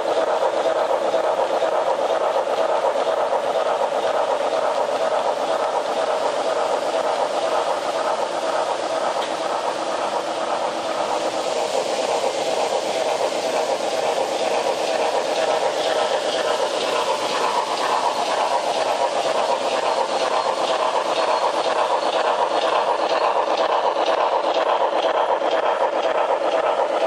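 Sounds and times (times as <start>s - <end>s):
model train rolling on track: 0.0s - 27.0s.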